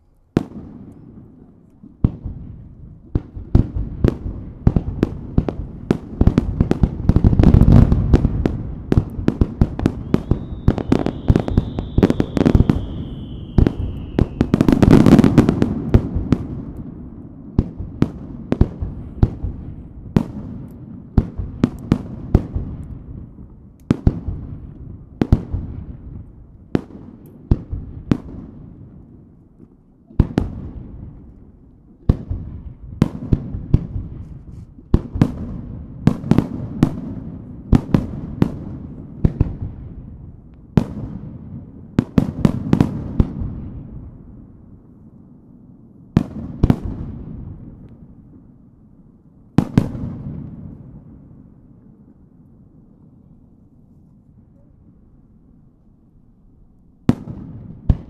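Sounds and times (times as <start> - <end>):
fireworks bursting with crackle: 0.0 - 55.0, 57.0 - 58.0.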